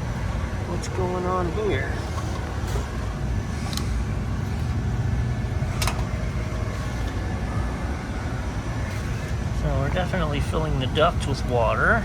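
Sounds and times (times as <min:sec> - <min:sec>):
low hum of hvac machinery: 0:00.0 - 0:12.0.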